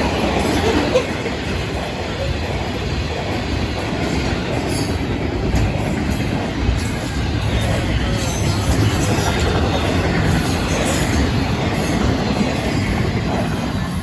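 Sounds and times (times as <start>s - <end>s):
freight train wheels clickety-clack: 0.0s - 14.0s.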